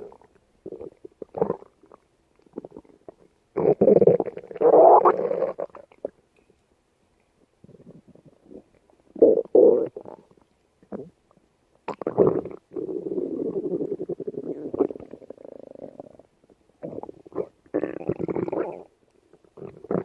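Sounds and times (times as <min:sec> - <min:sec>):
stomach growling: 0:00.0 - 0:06.2, 0:07.6 - 0:11.2, 0:11.9 - 0:20.0.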